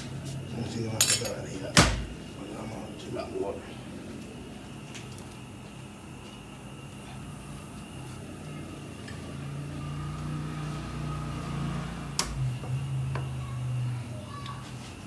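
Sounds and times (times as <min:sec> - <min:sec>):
low motor hum with tones: 0:02.1 - 0:15.0.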